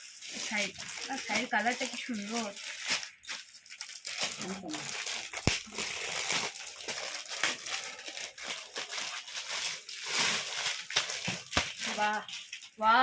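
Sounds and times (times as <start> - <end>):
gift wrap crinkling and tearing: 0.0 - 13.0.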